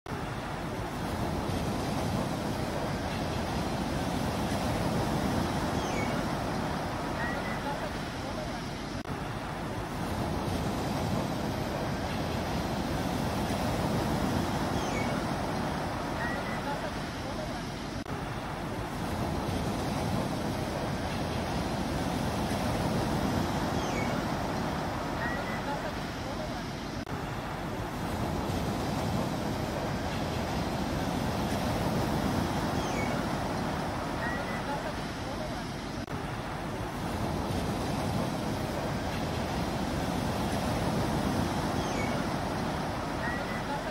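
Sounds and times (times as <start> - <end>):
rushing water: 0.0 - 43.9
small waves washing onto sand: 0.1 - 43.9.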